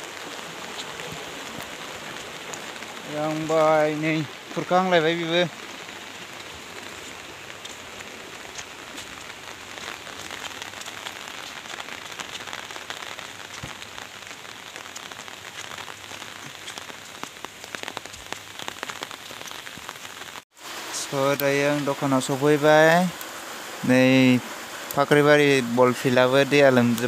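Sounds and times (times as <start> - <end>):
rain falling: 0.0 - 27.0
sharp raindrop hits: 0.0 - 27.0.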